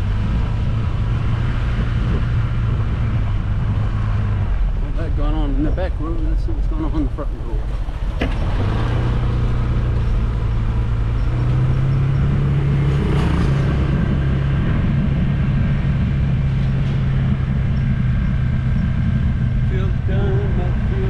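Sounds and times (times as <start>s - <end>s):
vehicle engine hum while driving: 0.0s - 21.0s.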